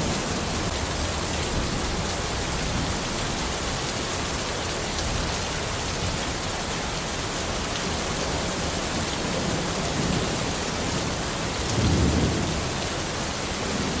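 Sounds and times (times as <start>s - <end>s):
rain in a forest: 0.0s - 14.0s.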